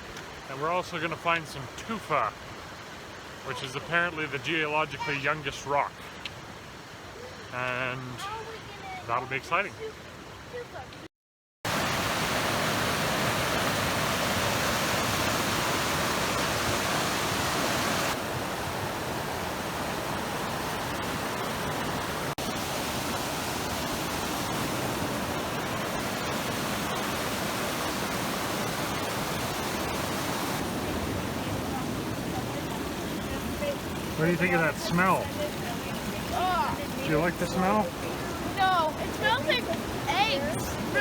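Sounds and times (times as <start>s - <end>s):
water rushing: 0.0s - 11.0s, 11.7s - 41.0s.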